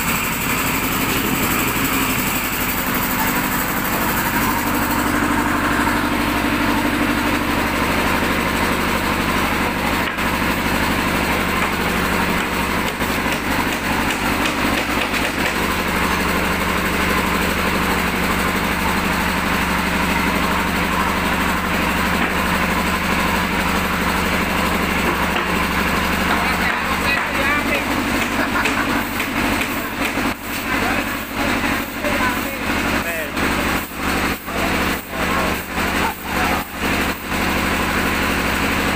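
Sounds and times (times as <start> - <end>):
concrete floor grinder running: 0.0 - 38.9.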